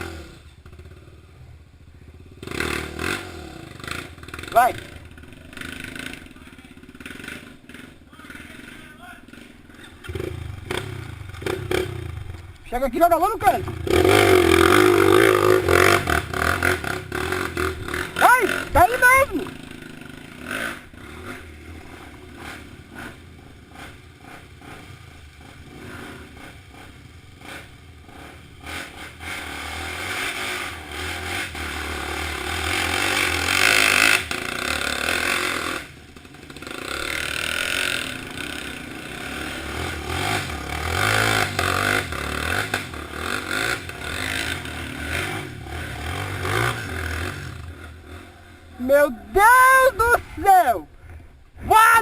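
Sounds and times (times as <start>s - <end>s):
dirt bike engine revving: 0.0s - 1.4s, 2.0s - 52.0s.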